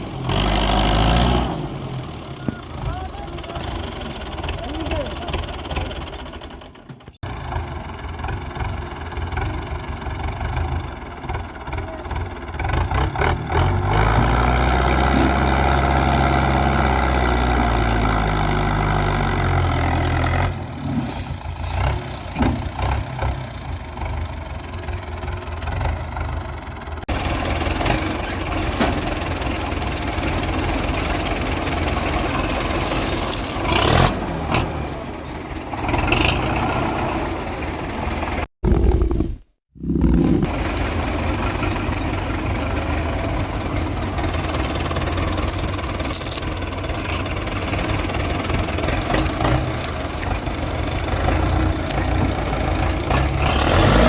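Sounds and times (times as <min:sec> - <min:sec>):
tractor diesel engine labouring: 0:00.0 - 0:39.0, 0:39.7 - 0:54.0.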